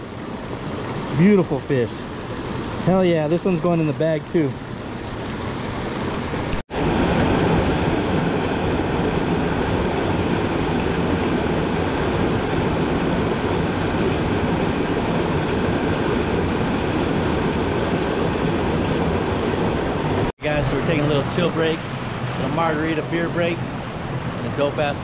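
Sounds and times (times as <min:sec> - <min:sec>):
stream rushing over boulders: 0:00.0 - 0:25.0.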